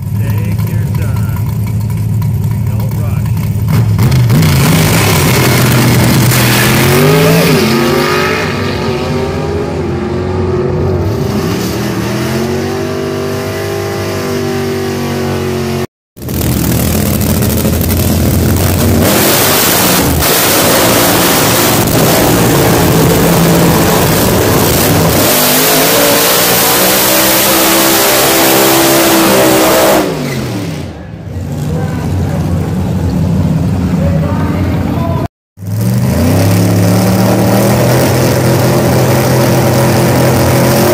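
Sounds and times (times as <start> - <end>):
full-throttle race car engine: 0.0 - 40.9
race car engine revving: 0.0 - 40.9.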